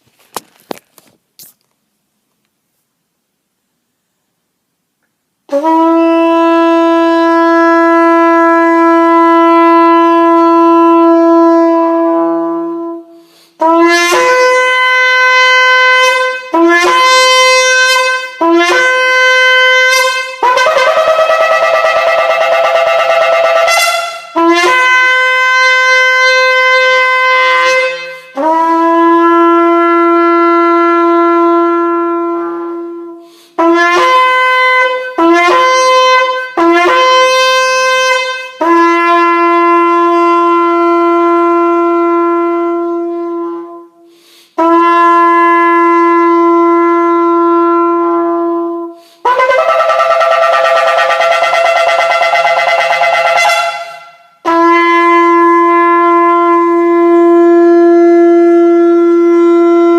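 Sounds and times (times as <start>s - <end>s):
shofar blasts: 5.5s - 59.9s.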